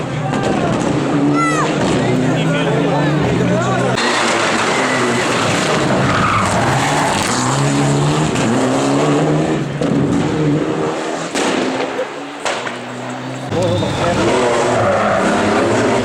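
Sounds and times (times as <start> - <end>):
rally car engine revving: 0.0 - 16.0
tyres skidding: 0.0 - 16.0.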